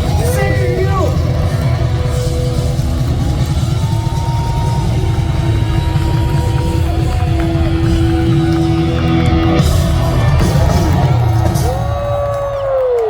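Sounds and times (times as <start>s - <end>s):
live rock band playing: 0.0s - 12.8s.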